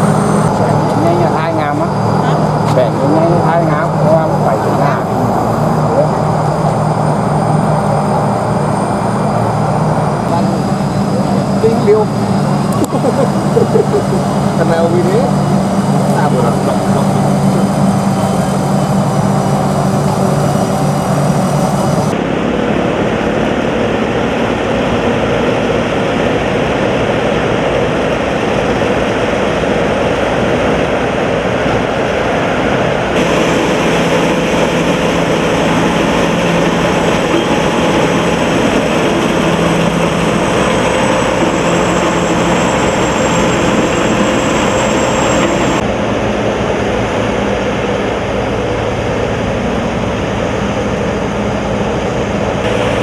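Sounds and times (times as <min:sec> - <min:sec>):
combine harvester engine hum: 0:00.0 - 0:53.0.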